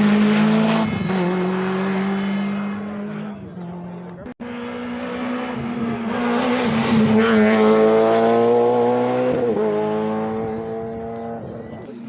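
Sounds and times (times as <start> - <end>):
rally car engine passing: 0.0 - 11.8.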